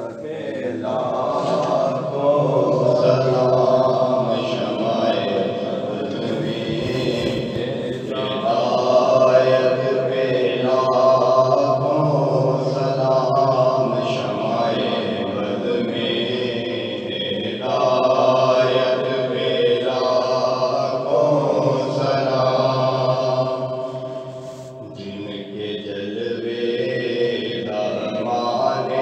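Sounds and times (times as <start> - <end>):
man singing long held notes: 0.0 - 29.0.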